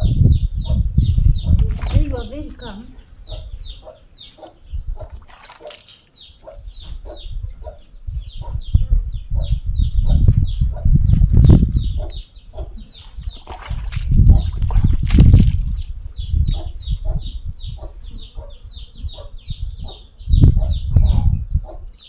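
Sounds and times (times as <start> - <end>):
chickens peeping: 0.1 - 22.0.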